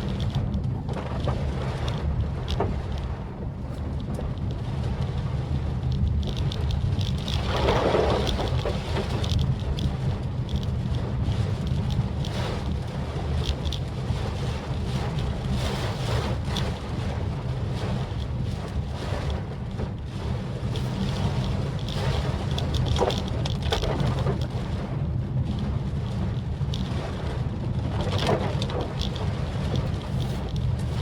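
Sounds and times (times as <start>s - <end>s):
car engine rumble: 0.0s - 31.0s.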